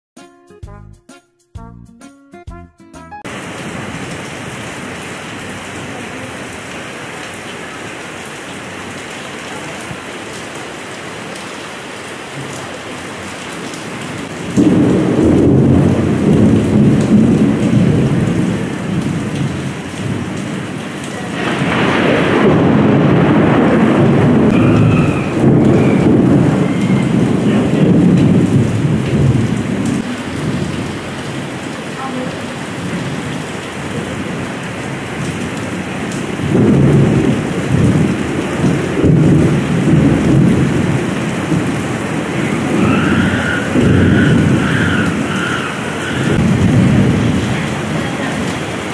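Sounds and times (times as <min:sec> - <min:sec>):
heavy rain pouring: 0:03.2 - 0:48.9.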